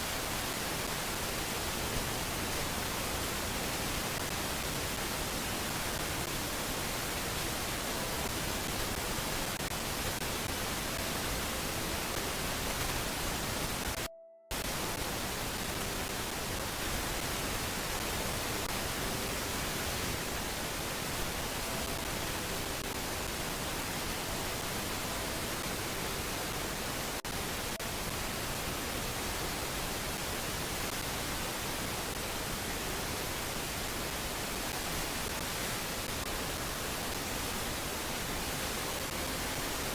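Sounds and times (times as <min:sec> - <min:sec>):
steady microphone hiss: 0:00.0 - 0:39.9.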